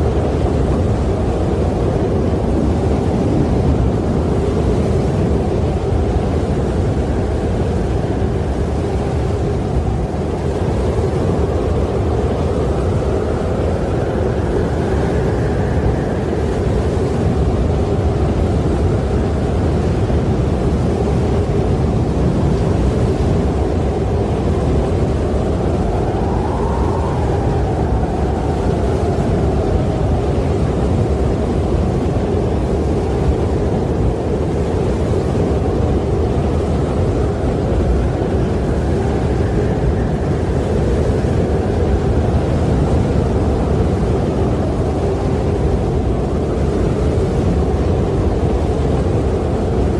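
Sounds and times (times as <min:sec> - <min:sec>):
howling wind whistle: 0:00.0 - 0:49.9
wind blowing: 0:00.0 - 0:49.9.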